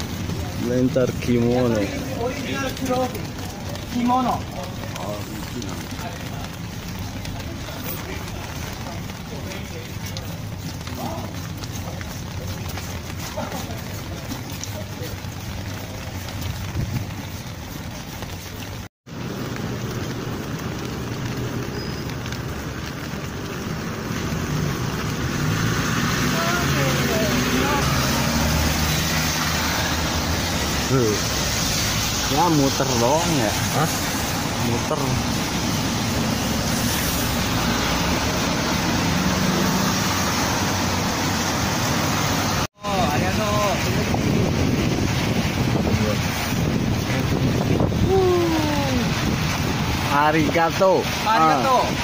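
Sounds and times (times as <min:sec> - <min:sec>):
vehicle engine hum: 0:00.0 - 0:50.0
city street traffic: 0:00.0 - 0:52.0
steady rain: 0:00.0 - 0:52.0
wet road noise: 0:00.0 - 0:52.0.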